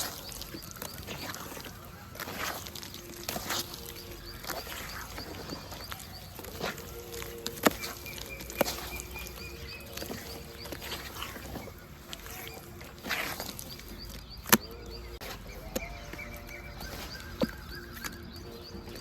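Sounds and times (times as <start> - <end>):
dirt dipped in water: 0.0 - 19.0
dry dirt crumbling: 0.0 - 19.0.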